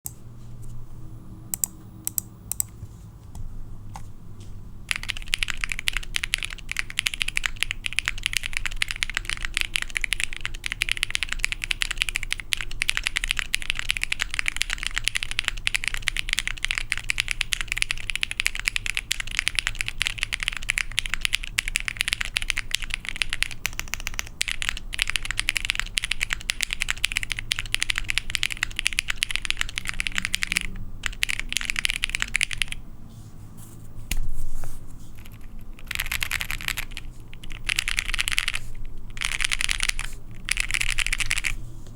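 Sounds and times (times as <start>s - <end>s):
mechanical keyboard typing: 1.6s - 2.7s, 4.9s - 32.8s, 35.2s - 41.6s.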